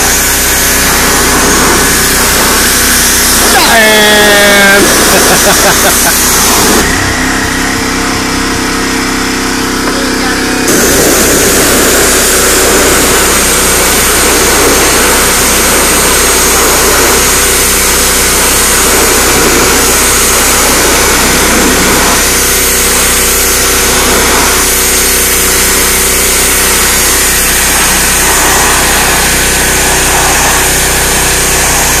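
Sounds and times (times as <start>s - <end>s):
water jet hissing on wood: 0.0s - 7.6s, 9.9s - 32.0s
pressure washer engine running: 0.0s - 32.0s.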